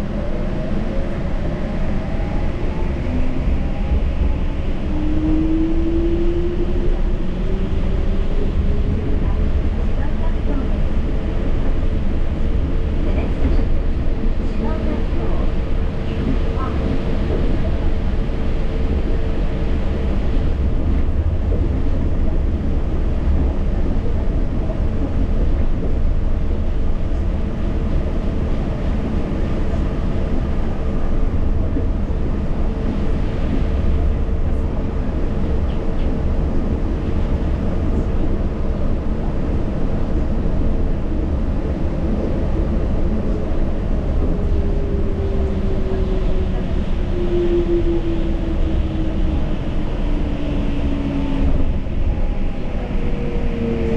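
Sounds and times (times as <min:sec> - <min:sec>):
train rumble from inside: 0:00.0 - 0:53.9.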